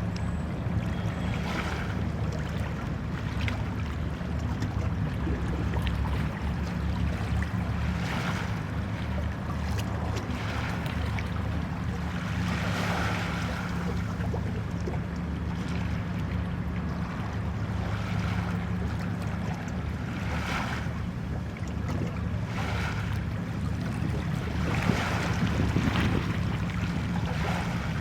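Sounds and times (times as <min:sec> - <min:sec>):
steady low hum: 0:00.0 - 0:28.0
waves washing against a pier: 0:01.2 - 0:14.9, 0:15.5 - 0:28.0.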